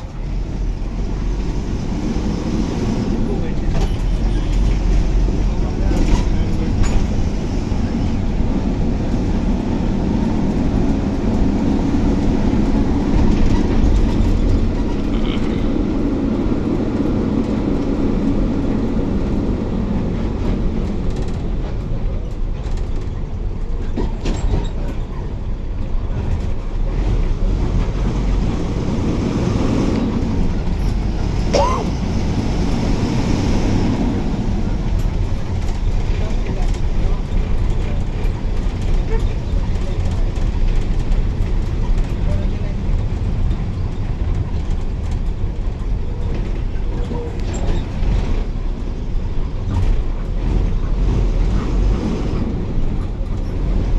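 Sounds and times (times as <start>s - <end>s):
bus engine and tyres rumbling: 0.0s - 53.9s.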